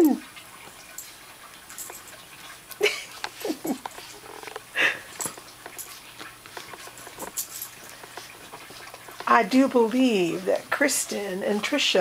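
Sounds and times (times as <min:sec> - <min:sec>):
dogs vocalizing: 0:00.5 - 0:11.6.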